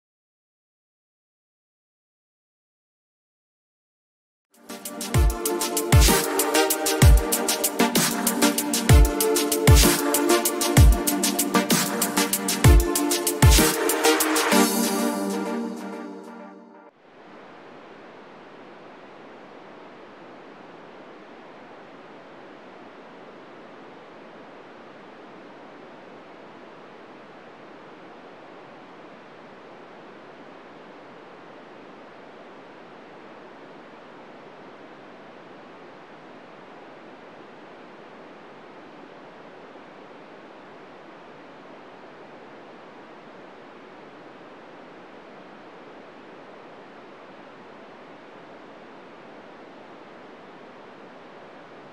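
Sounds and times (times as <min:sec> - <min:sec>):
radio receiver static hiss: 0:04.6 - 0:15.4, 0:16.9 - 0:51.9.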